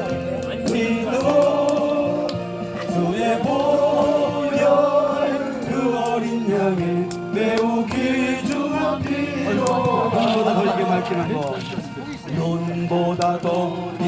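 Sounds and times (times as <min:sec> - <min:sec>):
group singing a hymn: 0:00.0 - 0:14.0.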